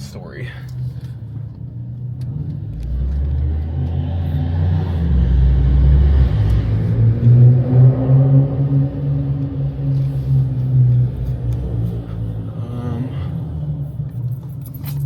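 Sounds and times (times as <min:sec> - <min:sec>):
car engine revving: 0:00.9 - 0:15.0.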